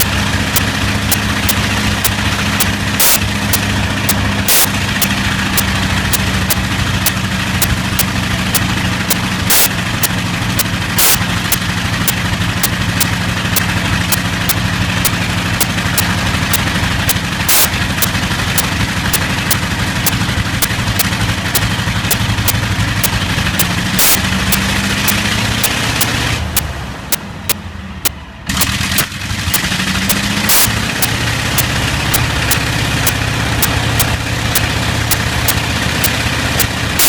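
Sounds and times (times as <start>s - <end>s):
engine pops: 0.0s - 37.0s
radial aero engine running: 0.0s - 37.0s
sharp engine ticks: 0.0s - 37.0s.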